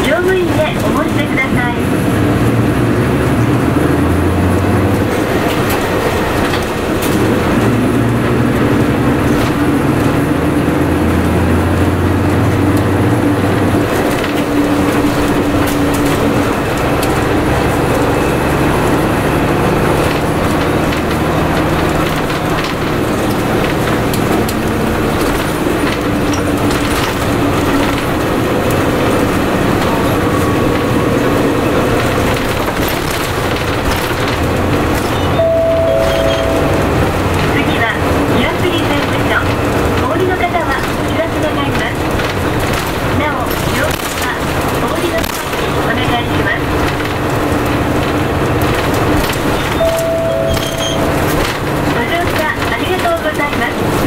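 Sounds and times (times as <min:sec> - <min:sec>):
bus diesel engine drone: 0:00.0 - 0:54.0
road and body noise: 0:00.0 - 0:54.0
rattles and clicks: 0:04.6 - 0:11.4, 0:12.7 - 0:35.4, 0:36.0 - 0:54.0.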